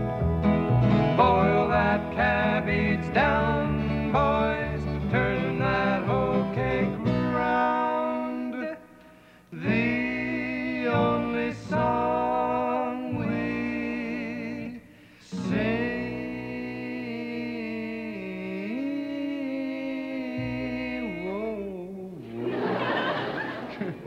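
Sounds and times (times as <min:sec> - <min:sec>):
upright bass: 0:00.0 - 0:08.6, 0:09.6 - 0:23.0
acoustic guitar: 0:00.0 - 0:24.0
men singing in harmony: 0:01.1 - 0:22.9.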